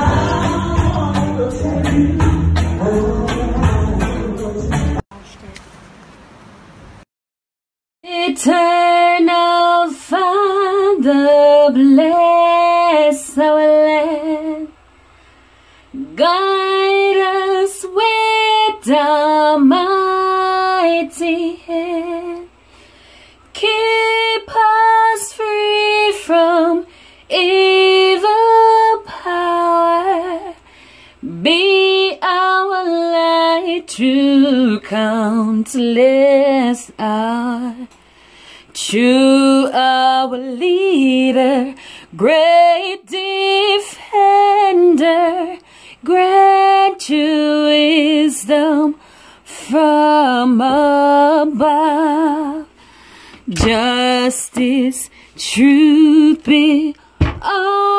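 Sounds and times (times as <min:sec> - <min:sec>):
woman singing: 0:00.0 - 0:04.5, 0:08.0 - 0:14.8, 0:16.0 - 0:22.6, 0:23.5 - 0:30.6, 0:31.2 - 0:38.0, 0:38.7 - 0:52.8, 0:53.4 - 0:57.9.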